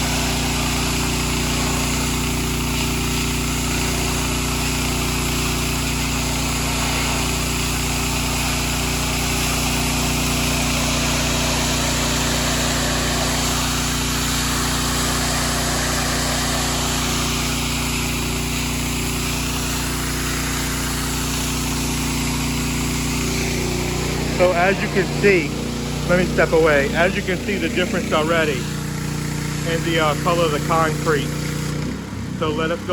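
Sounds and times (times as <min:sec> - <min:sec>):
water spray hissing on concrete: 0:00.0 - 0:32.1
pressure washer engine running: 0:00.0 - 0:32.9.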